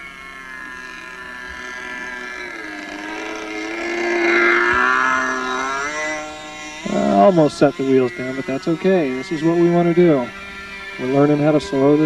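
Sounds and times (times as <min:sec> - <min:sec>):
model plane engine buzzing: 0:00.0 - 0:12.0.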